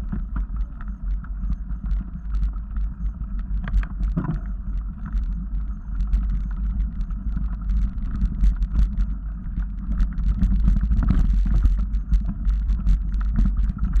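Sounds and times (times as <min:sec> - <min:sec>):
bike rattling over rocks: 0:00.0 - 0:14.0
wind on microphone: 0:00.0 - 0:14.0.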